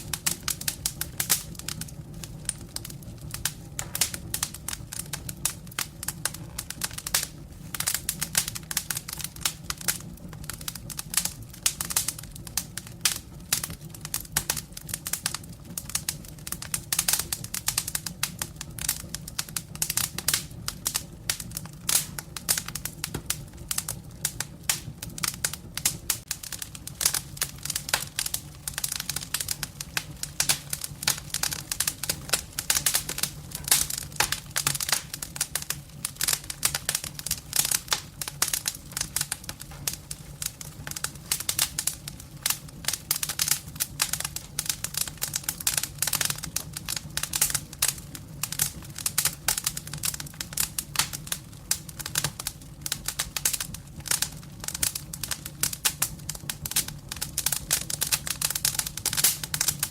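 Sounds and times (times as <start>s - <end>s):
firewood crackling and popping: 0.0s - 59.9s
low rumble of fire: 0.0s - 59.9s.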